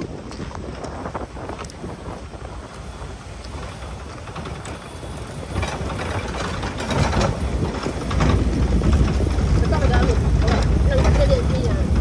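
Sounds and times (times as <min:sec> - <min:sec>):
engine rumbling low: 0:00.0 - 0:12.0
tyres crackling on gravel: 0:00.0 - 0:12.0.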